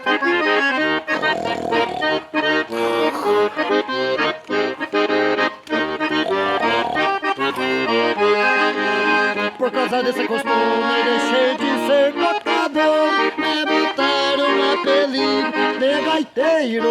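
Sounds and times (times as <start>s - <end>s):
accordion playing: 0.0s - 16.9s.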